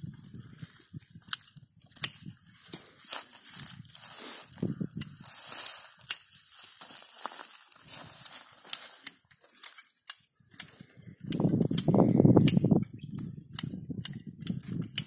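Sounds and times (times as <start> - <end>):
dry branches crackling: 0.0 - 13.7.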